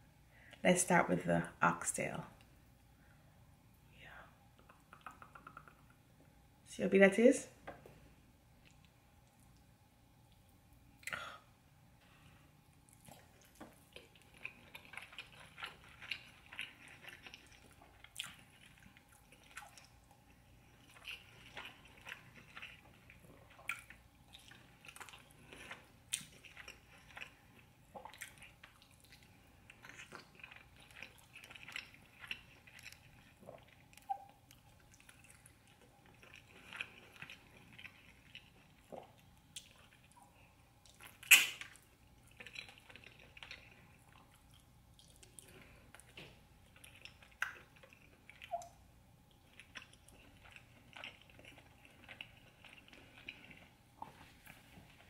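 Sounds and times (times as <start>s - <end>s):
chewing with mouth clicks: 4.6s - 6.0s, 8.5s - 11.2s, 12.0s - 55.0s.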